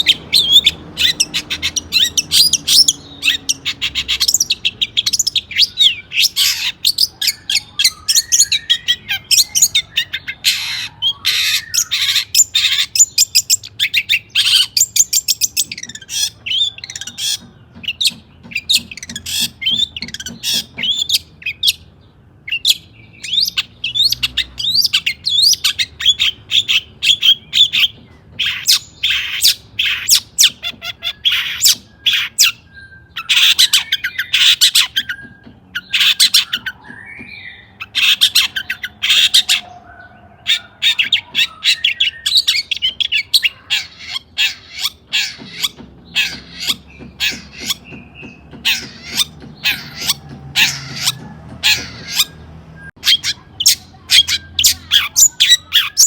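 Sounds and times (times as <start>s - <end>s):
bird chirps and squawks: 0.0s - 56.0s.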